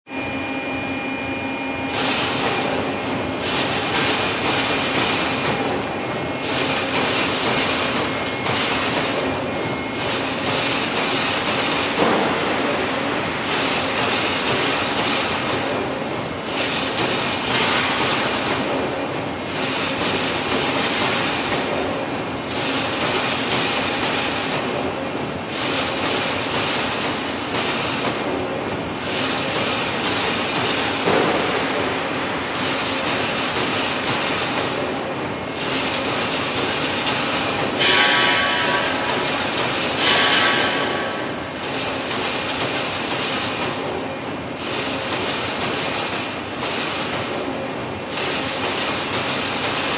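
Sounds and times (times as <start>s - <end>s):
machine mechanical clatter: 1.9s - 49.9s.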